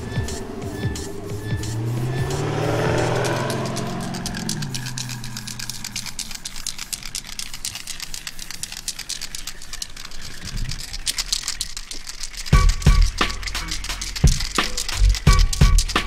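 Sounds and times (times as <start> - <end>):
spray paint can rattling: 0.0 - 16.0.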